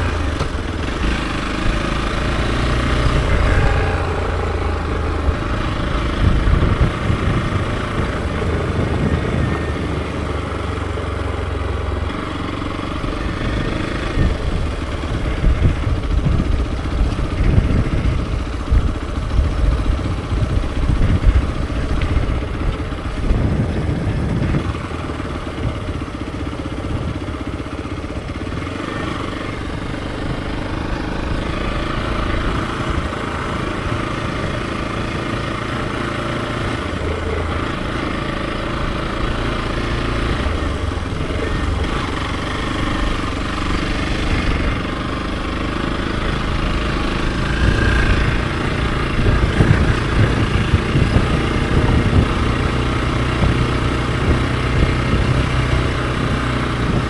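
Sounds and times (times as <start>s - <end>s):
low wind buffeting: 0.0s - 57.0s
motorcycle engine running: 0.0s - 57.0s.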